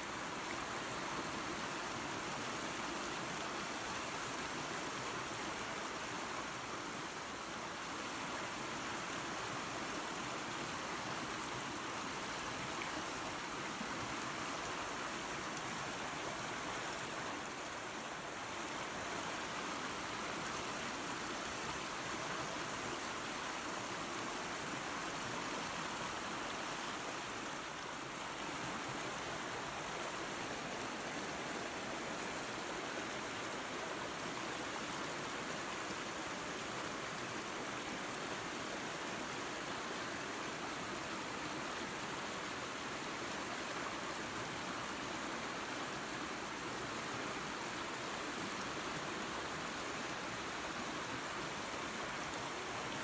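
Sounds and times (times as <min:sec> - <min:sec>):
creek and small waterfall rushing: 0:00.0 - 0:53.0.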